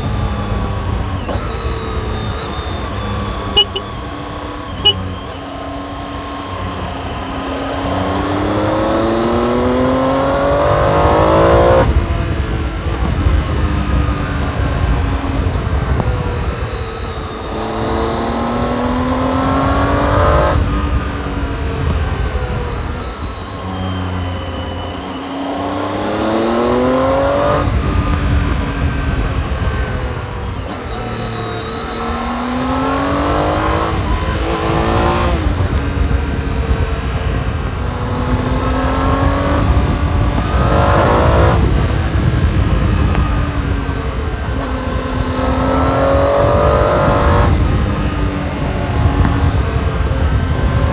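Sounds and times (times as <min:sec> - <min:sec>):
motorcycle engine accelerating: 0:00.0 - 0:50.9
wind rushing over microphone: 0:00.0 - 0:50.9.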